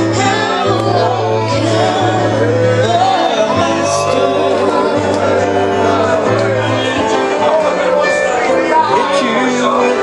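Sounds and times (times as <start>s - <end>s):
gospel song with singing: 0.0s - 10.0s.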